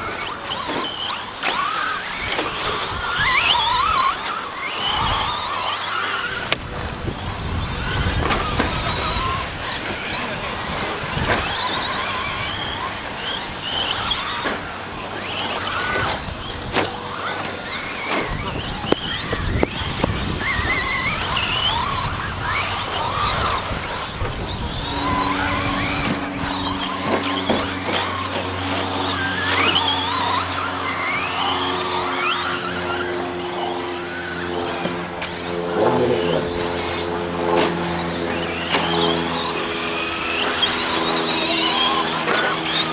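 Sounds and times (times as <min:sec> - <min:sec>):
low hum with held tones: 0:00.0 - 0:42.9
rc truck motors whining: 0:00.0 - 0:42.9.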